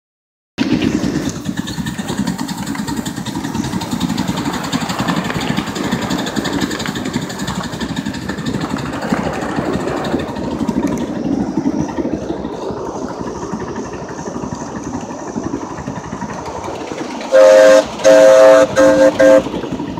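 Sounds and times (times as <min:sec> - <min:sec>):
steam locomotive rumbling on track: 0:00.6 - 0:19.9.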